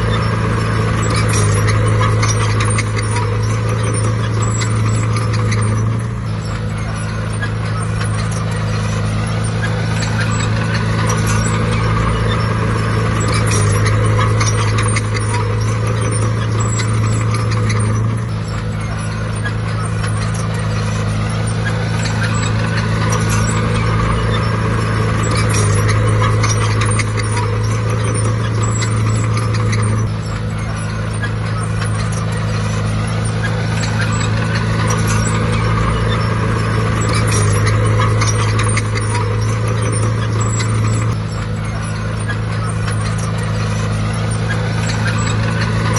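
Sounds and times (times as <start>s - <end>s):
heavy diesel engine running: 0.0s - 45.9s
metallic clatter: 0.0s - 45.9s.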